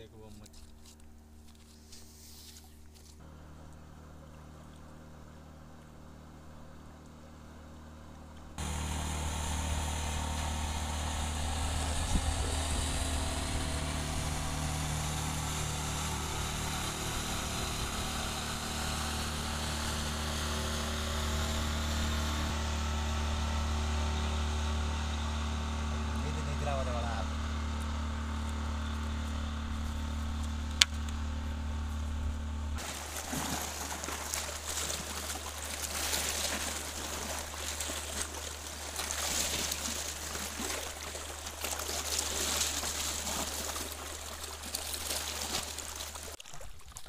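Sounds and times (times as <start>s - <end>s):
engine running: 0.0s - 46.4s.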